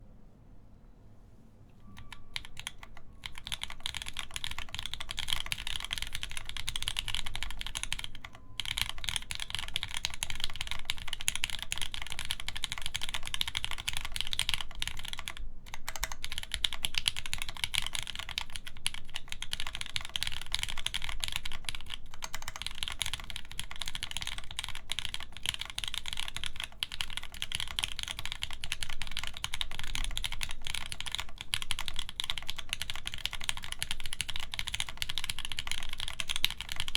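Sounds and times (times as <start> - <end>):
typing on mechanical keyboard: 1.9 - 36.9.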